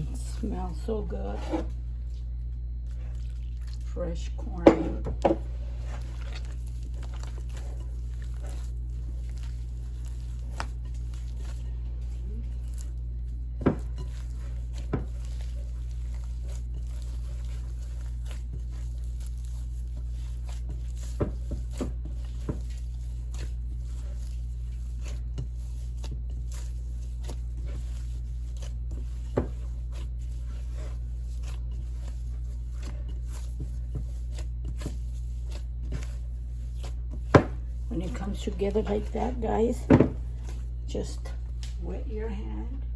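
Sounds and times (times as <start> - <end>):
hands kneading dough: 0.0 - 42.5
low hum: 0.0 - 42.9.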